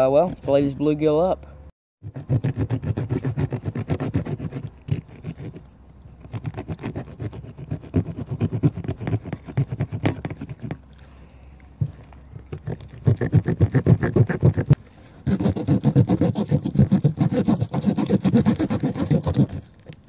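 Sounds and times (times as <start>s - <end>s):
knife scraping fish: 2.1s - 10.9s, 12.2s - 20.0s.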